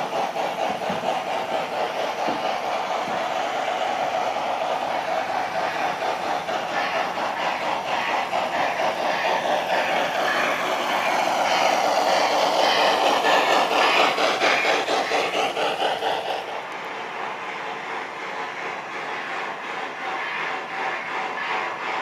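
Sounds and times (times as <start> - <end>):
model train wheels clicking: 0.0 - 22.0.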